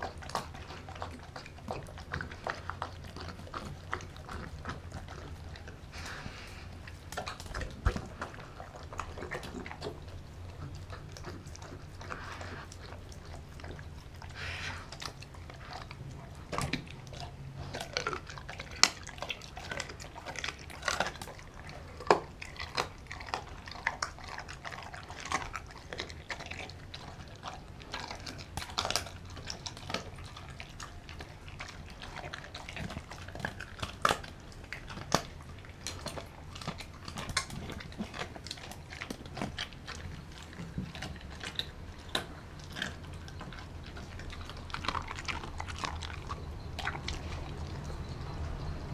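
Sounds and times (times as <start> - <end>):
dog chewing meat: 0.0 - 48.9.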